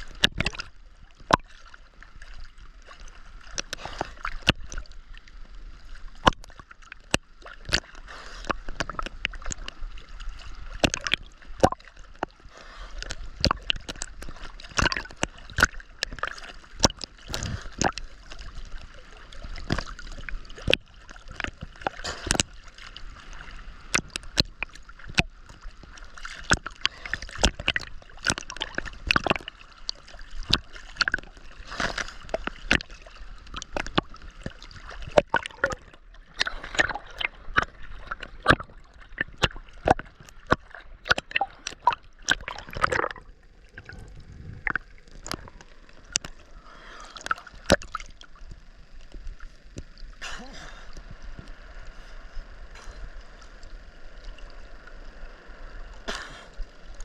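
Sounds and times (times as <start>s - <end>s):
gurgling water wash: 0.0s - 57.0s
water splashing from swimming: 0.0s - 57.0s.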